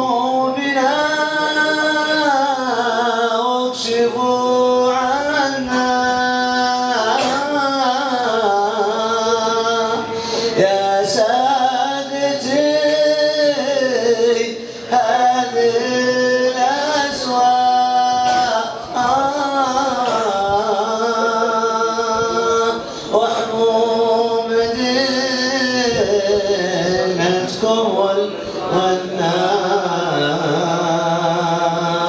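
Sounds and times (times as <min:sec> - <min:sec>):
man singing unaccompanied: 0:00.0 - 0:32.0.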